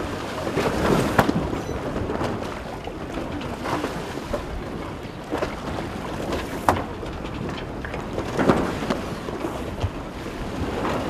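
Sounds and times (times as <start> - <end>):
water rushing along hull: 0.0 - 11.0
wind buffeting microphone: 0.0 - 11.0.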